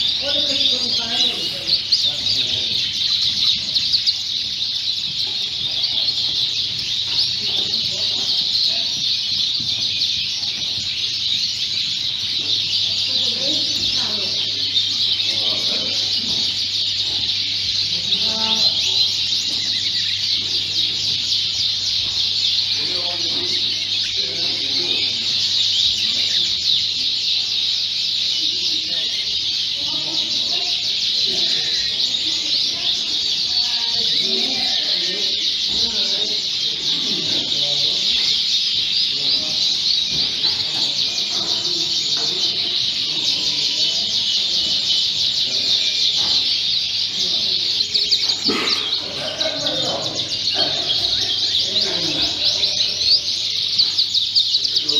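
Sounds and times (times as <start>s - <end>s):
people talking: 0.0s - 27.3s, 28.3s - 54.9s
canaries chirping and singing: 0.0s - 54.9s.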